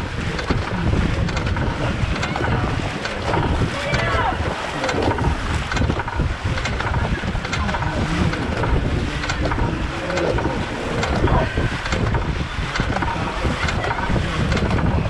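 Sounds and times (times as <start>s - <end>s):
paddles striking water: 0.0s - 15.0s
water rushing along hull: 0.0s - 15.0s
wind buffeting microphone: 0.0s - 15.0s.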